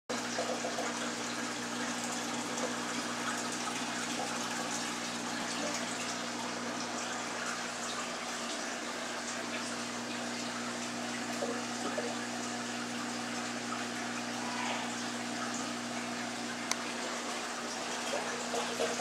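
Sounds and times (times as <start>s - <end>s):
water rushing: 0.2s - 19.0s.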